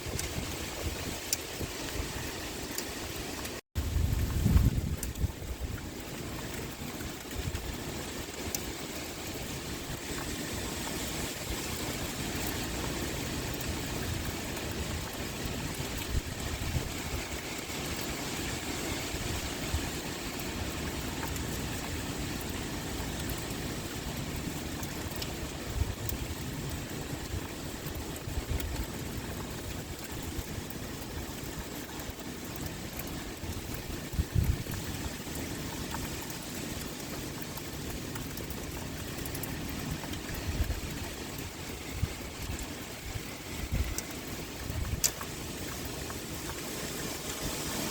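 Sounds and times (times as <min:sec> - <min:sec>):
pouring rain with wind: 0:00.0 - 0:47.9.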